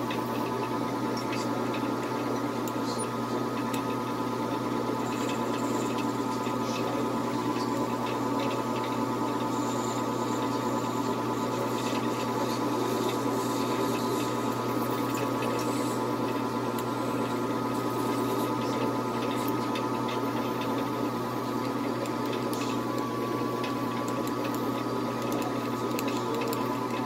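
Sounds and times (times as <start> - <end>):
metal lathe motor whine: 0.0 - 27.0.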